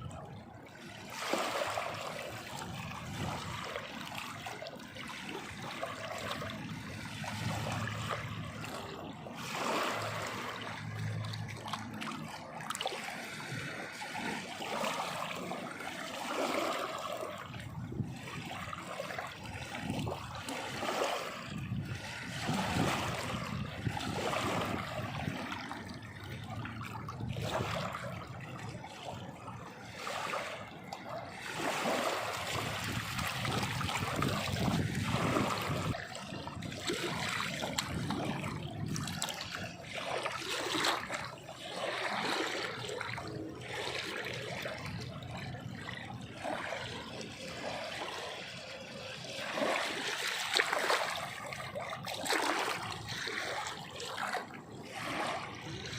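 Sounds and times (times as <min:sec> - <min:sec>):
water splashing and trickling: 0:00.0 - 0:55.9.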